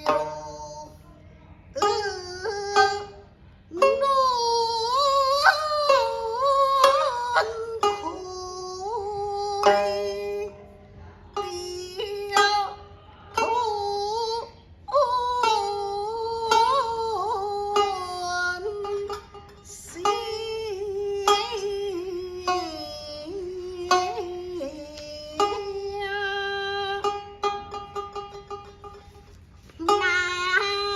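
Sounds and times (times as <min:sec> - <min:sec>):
woman singing long notes: 0:00.0 - 0:01.1, 0:01.7 - 0:10.8, 0:11.4 - 0:27.8, 0:29.8 - 0:30.9
plucked string accompaniment: 0:00.0 - 0:30.9.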